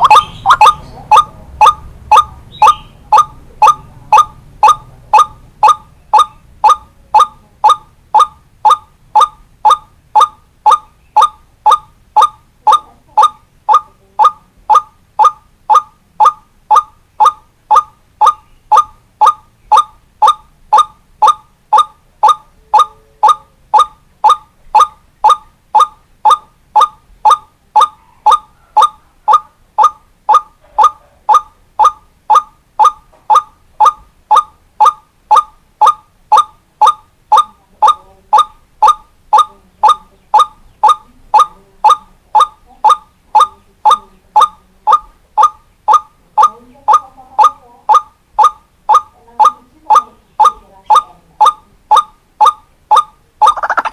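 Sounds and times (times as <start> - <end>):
waterhen call: 0.0 - 47.0, 47.9 - 53.9.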